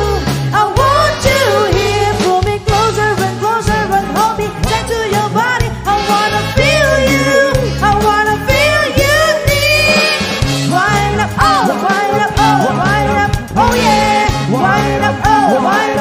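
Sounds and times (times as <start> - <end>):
pulsing bass beat: 0.0 - 15.6
disco dance music: 0.0 - 16.0
person singing: 0.0 - 16.0.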